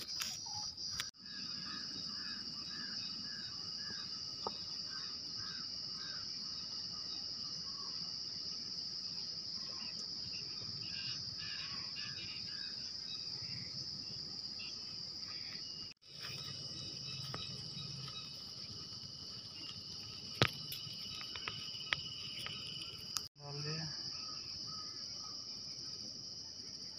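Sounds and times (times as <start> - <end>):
insect chorus chirring: 0.0 - 26.9.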